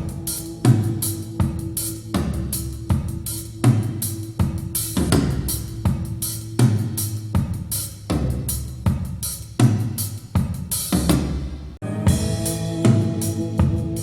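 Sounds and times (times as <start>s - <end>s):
drum kit beat through loudspeaker: 0.0s - 14.0s.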